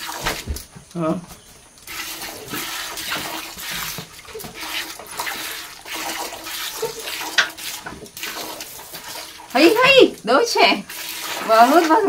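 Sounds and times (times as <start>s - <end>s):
milk squirting into metal bucket: 1.8s - 12.0s.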